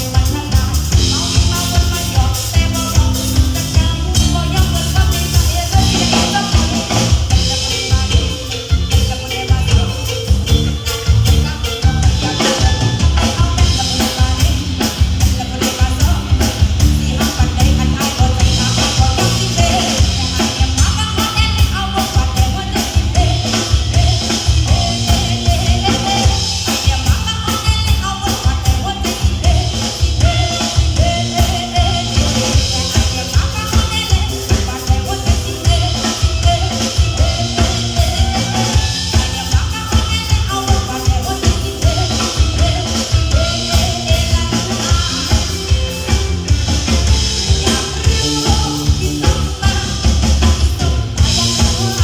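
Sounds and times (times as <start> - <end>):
drum kit beat: 0.0 - 52.0
live band playing: 0.0 - 52.0
person singing: 0.0 - 52.0.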